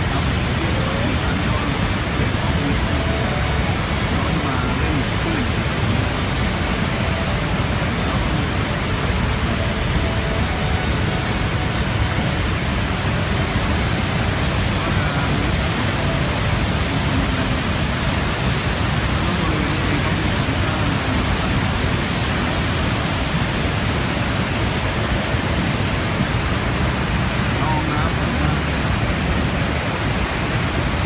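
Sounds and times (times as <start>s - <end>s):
rush of falling water: 0.0s - 31.0s.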